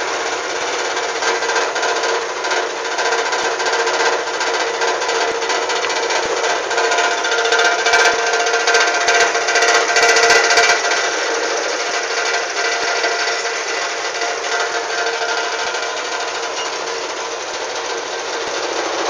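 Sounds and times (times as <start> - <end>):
ferry engine clattering: 0.0 - 19.0.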